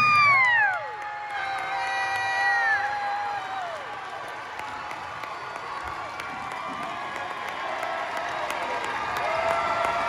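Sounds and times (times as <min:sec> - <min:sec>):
crowd cheering: 0:00.0 - 0:10.0.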